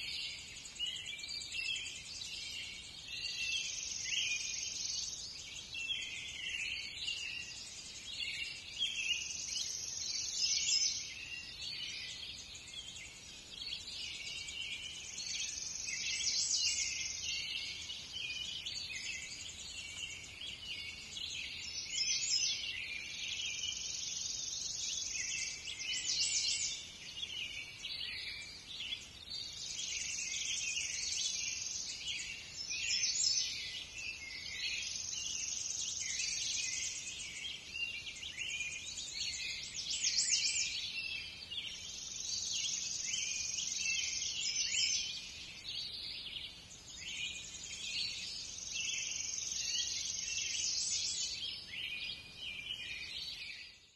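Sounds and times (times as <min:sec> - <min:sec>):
birds chirping and singing: 0:00.0 - 0:53.9.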